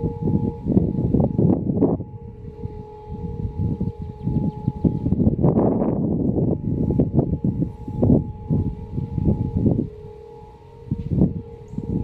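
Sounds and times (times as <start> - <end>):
electronic warning siren tones: 0.0 - 12.0.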